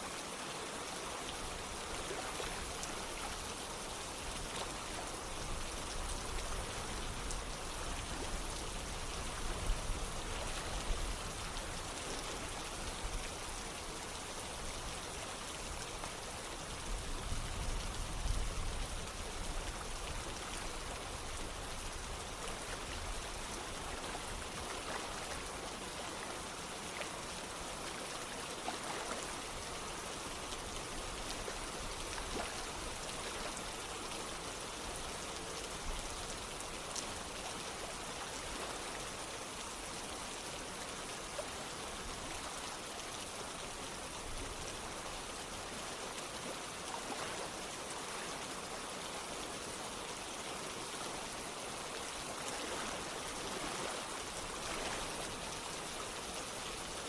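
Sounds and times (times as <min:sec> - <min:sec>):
running water: 0:00.0 - 0:57.0
steady rain: 0:00.0 - 0:57.0.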